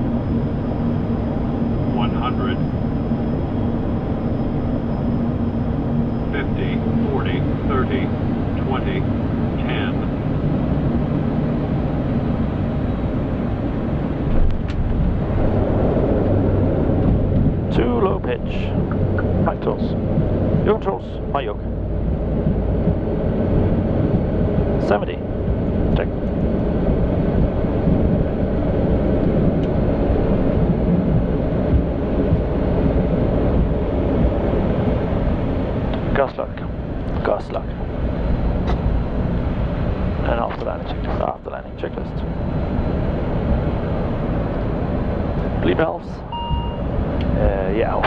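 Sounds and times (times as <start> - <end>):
aircraft engine and airflow noise: 0.0 - 48.0
turboprop plane landing roll rumble: 0.0 - 48.0.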